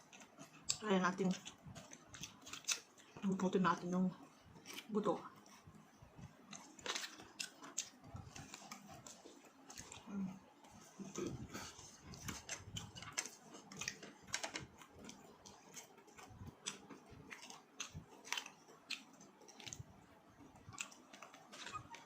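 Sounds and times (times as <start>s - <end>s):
chewing fried chicken: 0.0s - 22.0s.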